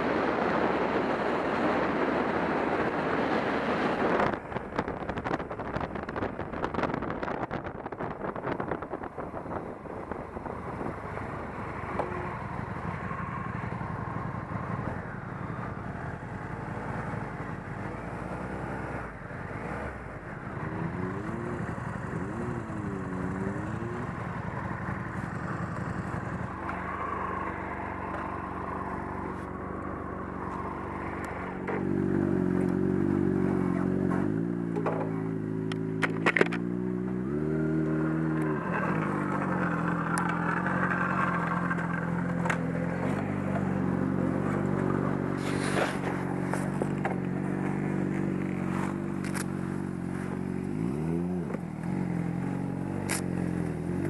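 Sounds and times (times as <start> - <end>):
motorcycle engine running: 4.2 - 54.0.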